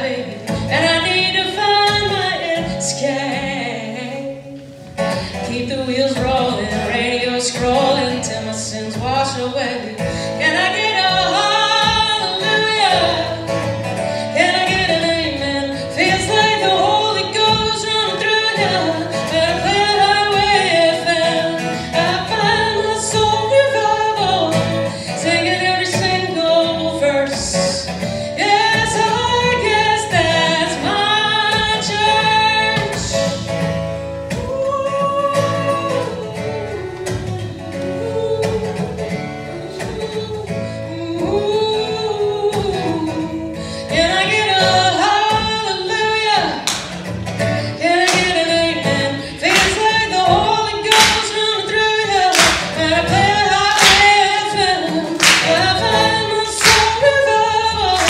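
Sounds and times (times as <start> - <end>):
acoustic guitar strumming: 0.0 - 58.0
woman singing: 0.0 - 58.0.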